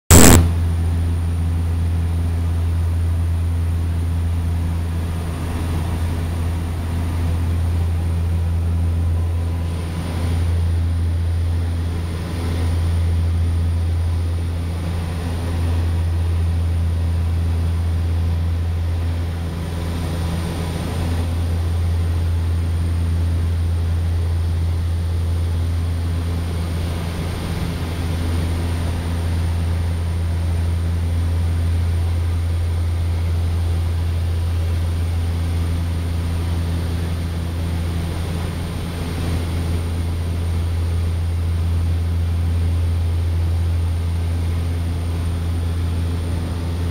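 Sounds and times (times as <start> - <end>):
propeller plane engine drone: 0.1 - 46.9.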